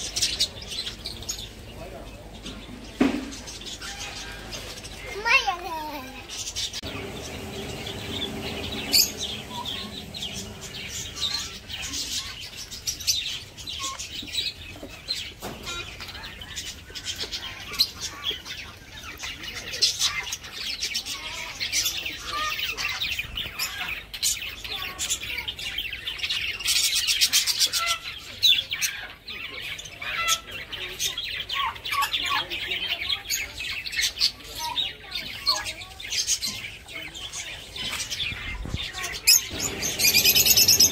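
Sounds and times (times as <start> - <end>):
small birds chirping and chattering: 0.0 - 40.9.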